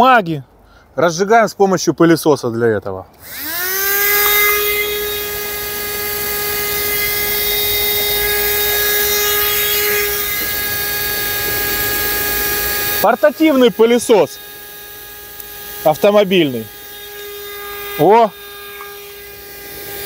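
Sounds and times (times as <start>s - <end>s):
small electric motor whining: 3.2s - 20.0s.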